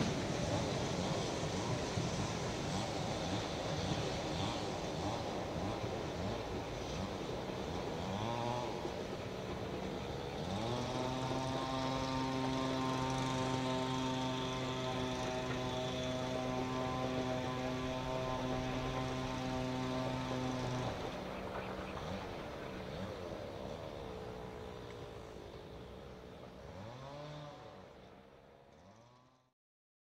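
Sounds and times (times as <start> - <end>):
track machinery engine revving: 0.0 - 29.5.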